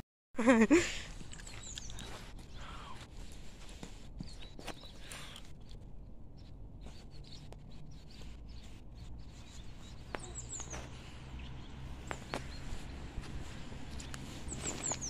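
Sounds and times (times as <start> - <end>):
low outdoor rumble: 0.5 - 15.0
bird chirping: 1.1 - 3.0, 3.8 - 15.0.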